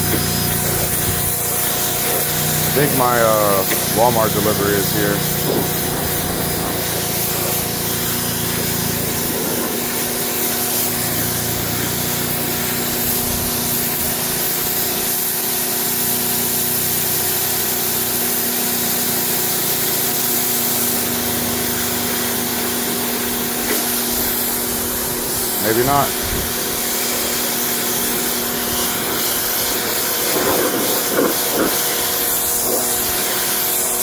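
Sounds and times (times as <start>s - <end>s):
pressure washer motor hum: 0.0s - 34.0s
water jet hissing on carpet: 0.0s - 34.0s.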